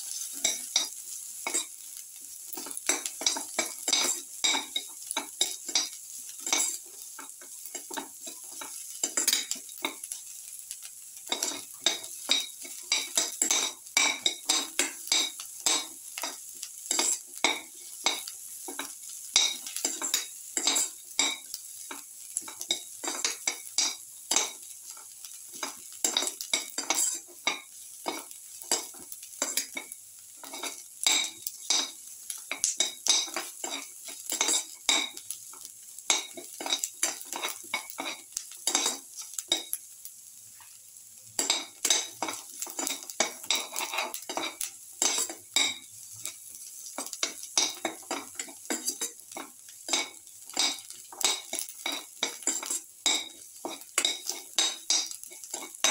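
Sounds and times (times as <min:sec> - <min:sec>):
spatula scraping a pan: 0:00.0 - 0:10.2, 0:11.3 - 0:39.8, 0:41.4 - 0:55.9
onions sizzling in oil: 0:00.0 - 0:55.9.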